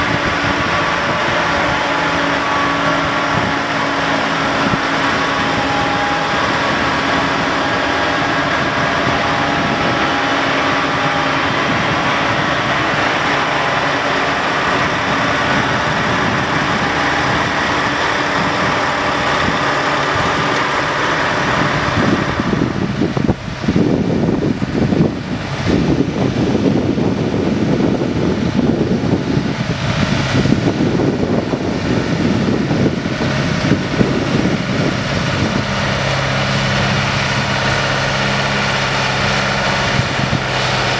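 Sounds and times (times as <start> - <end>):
truck diesel engines running: 0.0 - 40.9.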